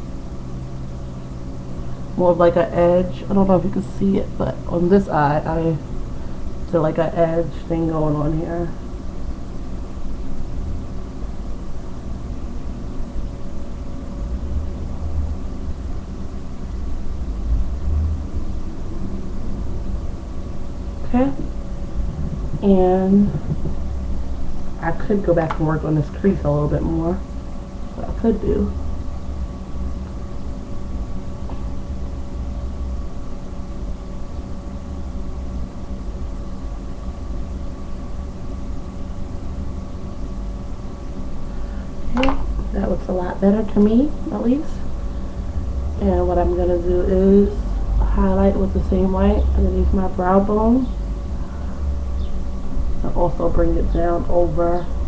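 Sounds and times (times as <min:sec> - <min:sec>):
low uneven rumble: 0:00.0 - 0:36.9, 0:40.3 - 0:55.0
faint steady hum: 0:00.0 - 0:55.0.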